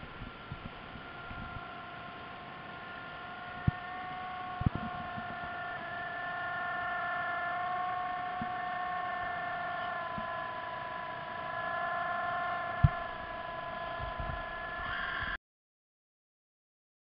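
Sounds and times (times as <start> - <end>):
electric motors whining underwater: 0.0 - 15.4.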